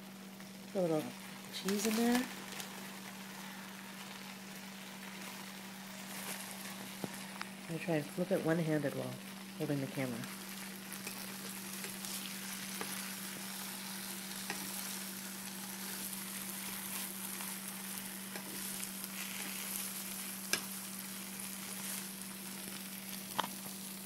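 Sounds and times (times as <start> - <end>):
omelet sizzling in a pan: 0.0 - 24.0.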